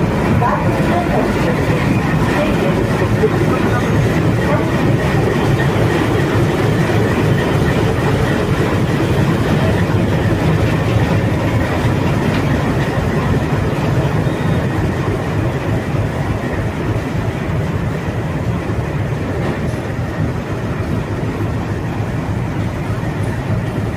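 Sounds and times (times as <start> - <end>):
train wheels rumbling on rail: 0.0 - 23.9.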